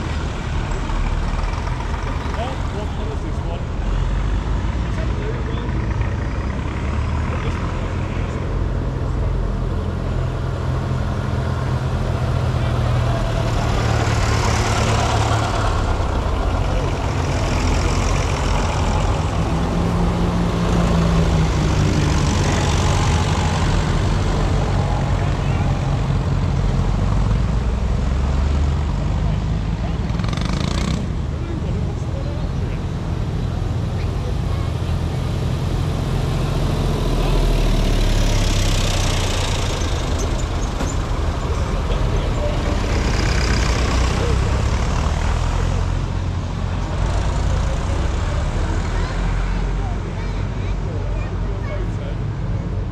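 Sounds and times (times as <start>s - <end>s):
tractor engines driving past: 0.0s - 52.9s.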